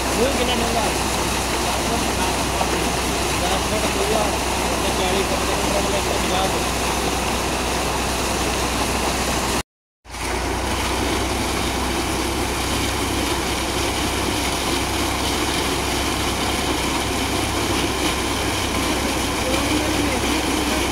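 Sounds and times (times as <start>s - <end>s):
tractor engine humming: 0.0s - 20.9s
water gushing into a tank: 0.0s - 20.9s.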